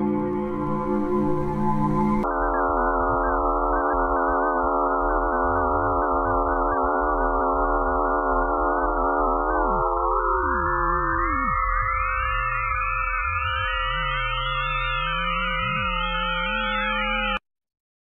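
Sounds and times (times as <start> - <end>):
eerie electronic drone: 0.0 - 17.4.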